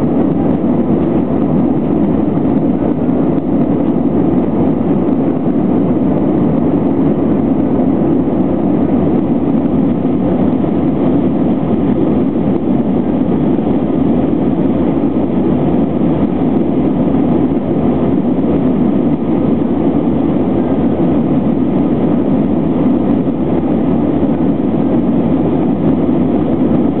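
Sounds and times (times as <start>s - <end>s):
jet engine and airflow noise in cabin: 0.0s - 27.0s.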